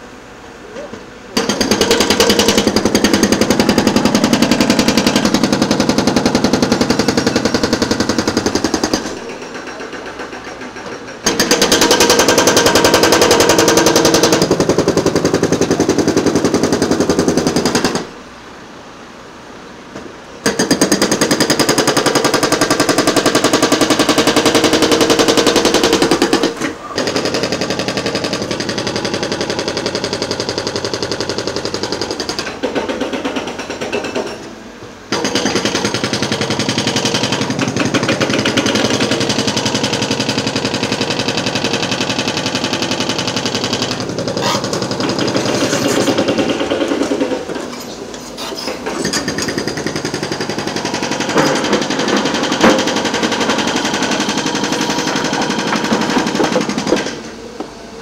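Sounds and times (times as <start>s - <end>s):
hydraulic breaker hammering: 0.9s - 18.2s, 20.4s - 57.8s.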